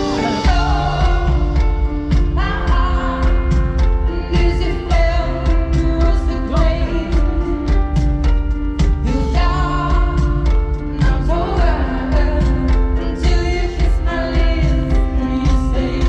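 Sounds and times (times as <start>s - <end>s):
band playing pop music: 0.0s - 16.0s
steady drum beat: 0.0s - 16.0s
woman singing: 0.0s - 16.0s.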